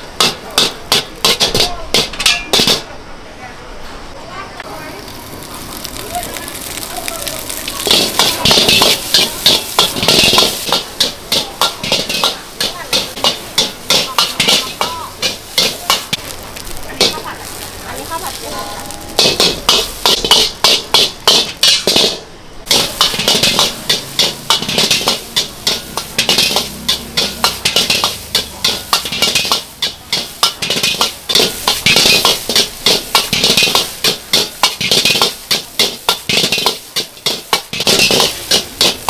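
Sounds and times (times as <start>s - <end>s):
metal spatula clanging against wok: 0.2s - 2.9s, 7.8s - 16.2s, 18.5s - 39.0s
food sizzling: 4.6s - 39.0s.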